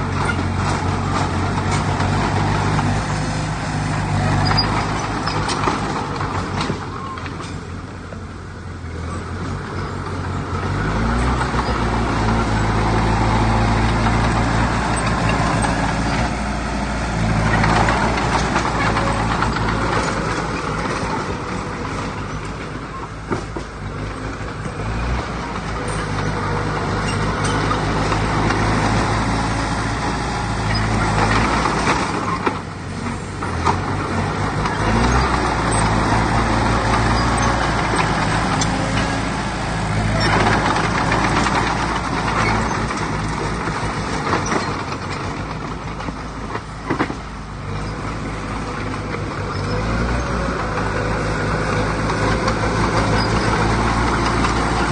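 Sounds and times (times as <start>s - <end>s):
heavy diesel machinery under load: 0.0s - 54.9s.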